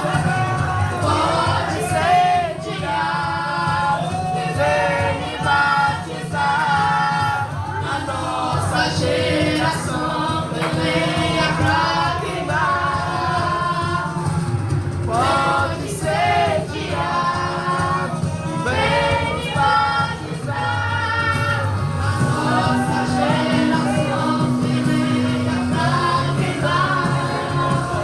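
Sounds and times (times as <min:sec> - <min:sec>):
instrumental accompaniment: 0:00.0 - 0:28.0
youth choir singing: 0:00.0 - 0:28.0.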